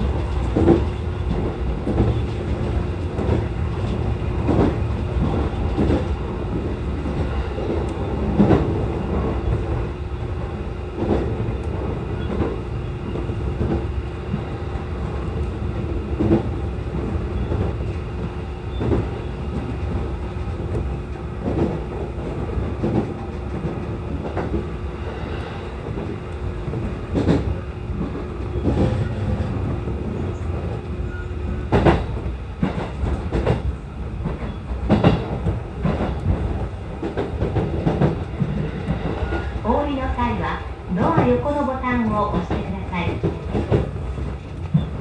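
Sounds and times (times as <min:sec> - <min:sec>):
electric train rumble: 0:00.0 - 0:45.0.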